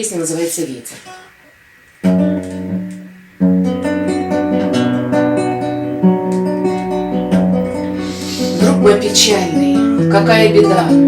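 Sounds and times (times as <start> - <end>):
acoustic guitar strumming: 1.0 - 11.0.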